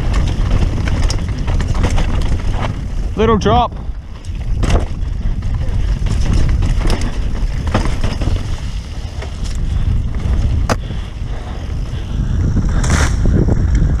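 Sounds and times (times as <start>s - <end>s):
bike knocks and rattles: 0.0s - 14.0s
bike tyres rumbling over dirt: 0.0s - 14.0s
wind buffeting microphone: 0.0s - 14.0s.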